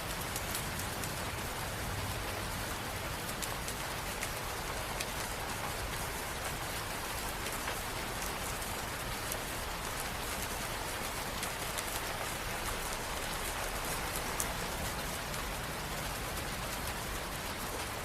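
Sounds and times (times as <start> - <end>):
rain on a hard surface: 0.0 - 18.0.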